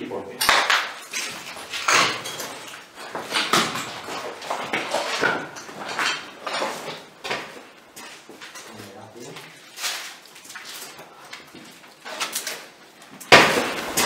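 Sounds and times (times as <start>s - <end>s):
footsteps on tiles: 0.9s - 13.2s
clothing and bags rustling: 0.9s - 14.0s.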